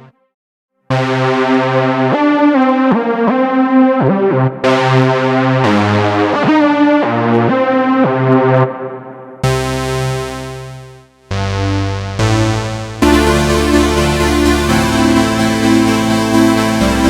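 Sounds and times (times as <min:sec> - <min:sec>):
synthesizer playing chords: 0:00.9 - 0:17.0.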